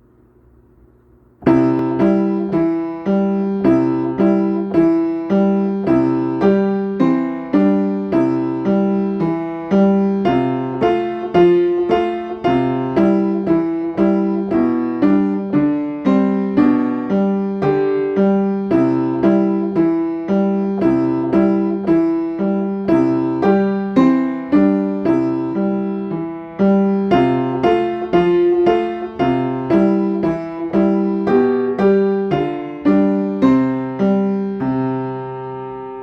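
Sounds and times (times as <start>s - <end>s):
piano chords over bass notes: 1.3s - 36.0s.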